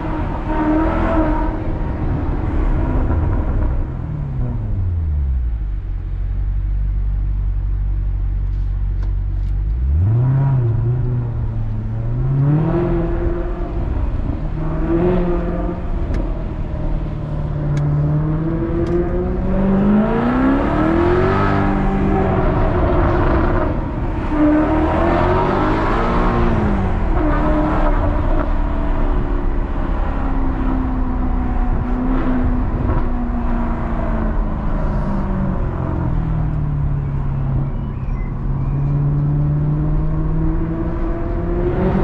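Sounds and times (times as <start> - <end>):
car exhaust accelerating: 0.0 - 42.0.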